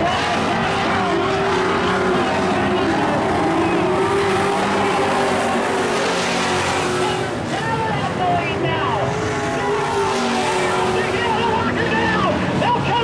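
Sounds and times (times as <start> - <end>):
race truck engines racing: 0.0 - 13.0.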